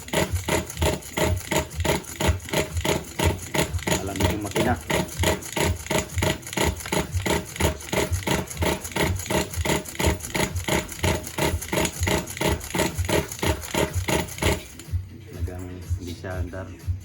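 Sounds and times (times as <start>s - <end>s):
engine cranking on starter motor: 0.0s - 15.0s.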